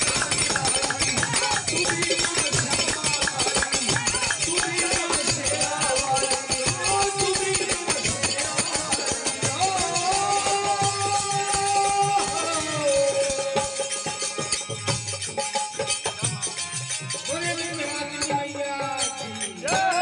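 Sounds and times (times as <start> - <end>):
dholak drumming: 0.0 - 20.0.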